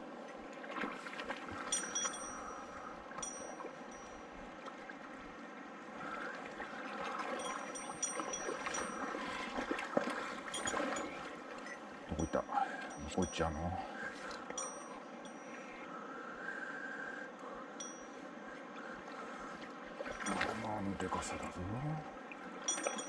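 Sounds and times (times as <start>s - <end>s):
river water gurgling: 0.0s - 23.0s.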